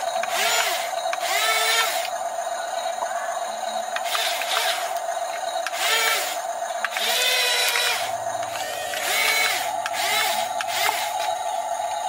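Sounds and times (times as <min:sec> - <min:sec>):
small electric motors whining: 0:00.0 - 0:12.0
steady high hum: 0:00.0 - 0:12.0.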